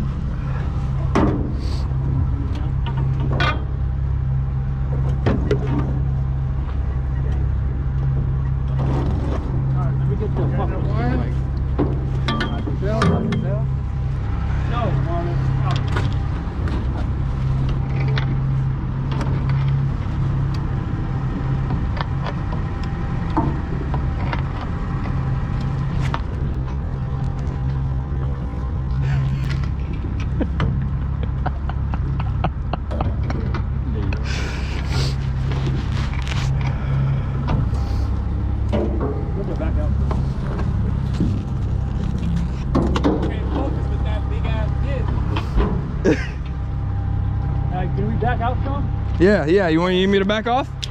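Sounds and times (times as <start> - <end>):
boat engine idling: 0.0 - 50.9.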